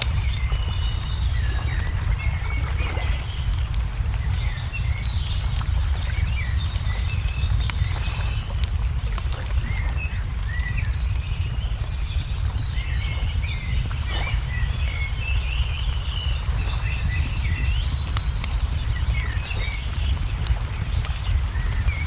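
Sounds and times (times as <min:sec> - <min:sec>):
small birds chirping: 0:00.0 - 0:22.0
steady low rumble: 0:00.0 - 0:22.0
wood fire crackling: 0:00.0 - 0:22.0.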